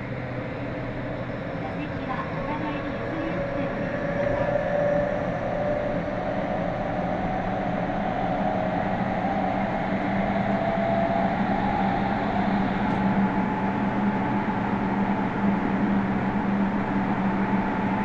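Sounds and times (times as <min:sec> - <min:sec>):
train rolling rumble: 0:00.0 - 0:18.0.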